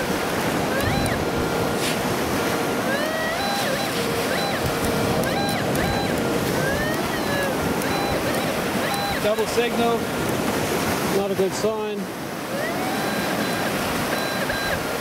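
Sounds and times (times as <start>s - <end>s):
metal detector tones: 0.0s - 10.4s, 12.5s - 15.0s
waves washing: 0.0s - 15.0s.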